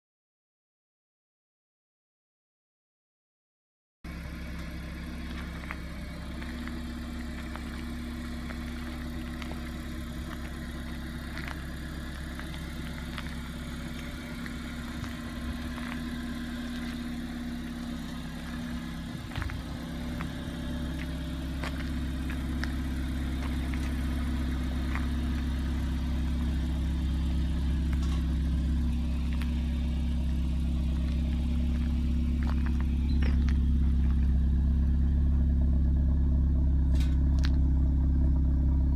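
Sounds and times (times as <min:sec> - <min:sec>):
car engine idling: 0:04.1 - 0:38.9.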